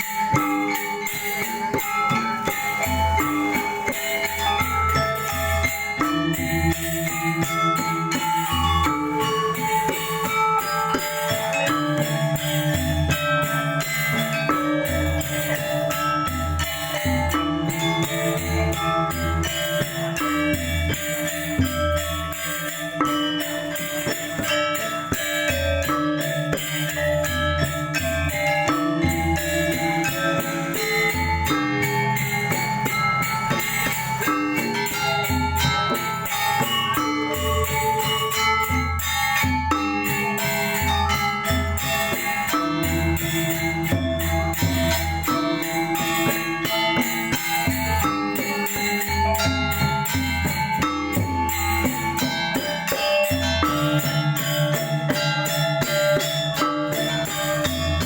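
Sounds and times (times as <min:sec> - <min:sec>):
metallophones ringing fast notes: 0:00.0 - 0:58.0
sharp cymbal-like strikes: 0:00.0 - 0:58.0.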